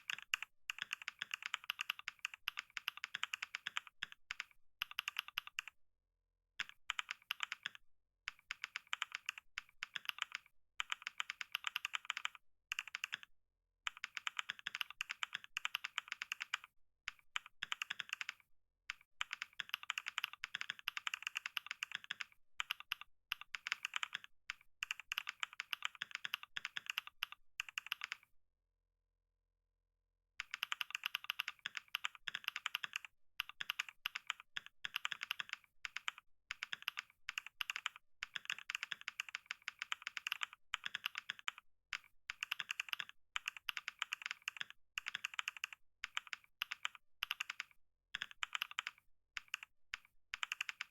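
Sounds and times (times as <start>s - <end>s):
fast typing on keyboard: 0.0s - 5.8s, 6.6s - 13.3s, 13.9s - 28.3s, 30.4s - 50.9s.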